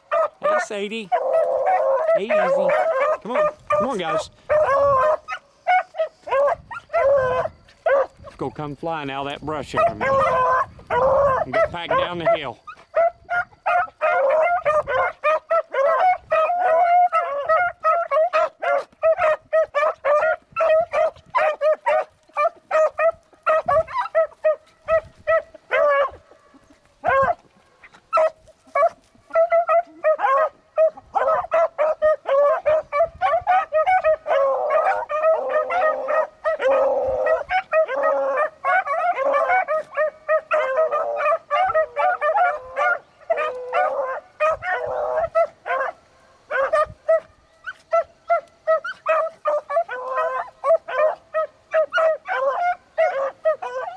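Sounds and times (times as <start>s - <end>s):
hounds baying: 0.0s - 53.9s.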